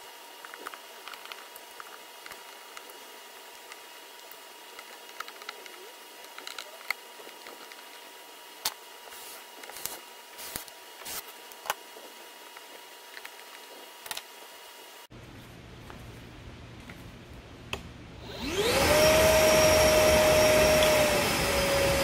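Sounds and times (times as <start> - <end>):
faint hiss and whine: 0.0 - 22.0
low steady hum: 0.0 - 22.0.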